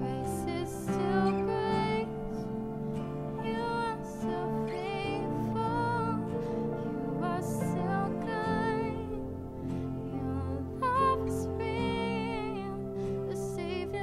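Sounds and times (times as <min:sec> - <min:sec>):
woman singing with vibrato: 0:00.0 - 0:02.5, 0:03.4 - 0:09.4, 0:10.0 - 0:14.0
acoustic guitar: 0:00.0 - 0:14.0
stage keyboard: 0:00.0 - 0:14.0.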